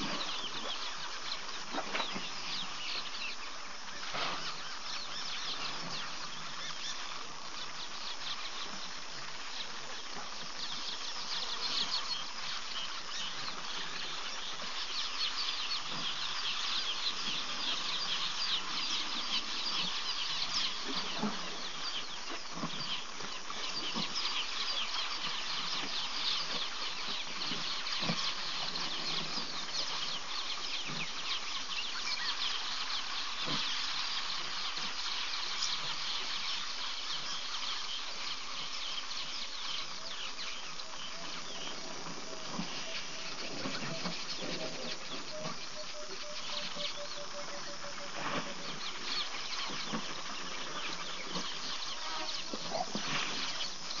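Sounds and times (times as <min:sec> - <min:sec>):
birds and insects chirping: 0:00.0 - 0:54.0.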